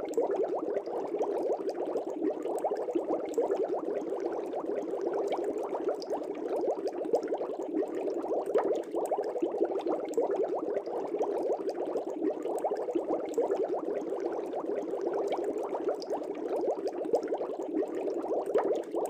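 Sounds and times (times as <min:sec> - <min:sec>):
air bubbles in fish tank: 0:00.0 - 0:19.0.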